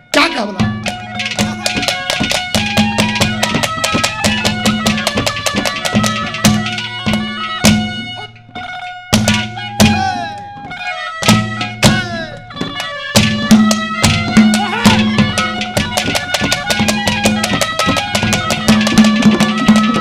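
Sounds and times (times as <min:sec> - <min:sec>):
hand drum beat: 0:00.0 - 0:20.0
held melodic notes: 0:00.0 - 0:20.0.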